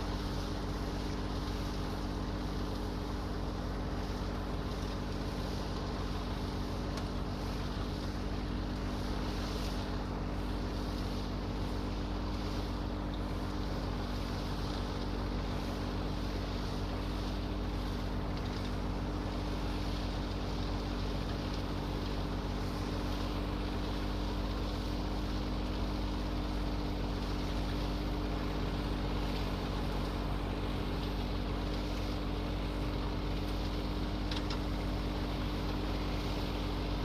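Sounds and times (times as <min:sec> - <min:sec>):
tractor engine running steadily: 0:00.0 - 0:37.0.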